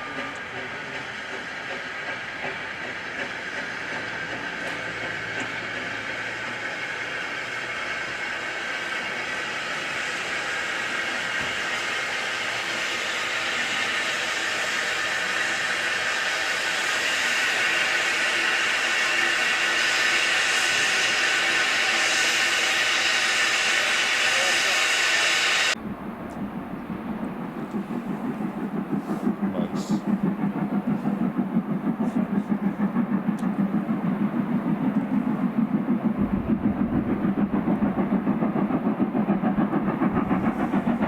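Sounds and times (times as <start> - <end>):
steam hissing: 0.0 - 41.0
steam train running: 0.0 - 41.0.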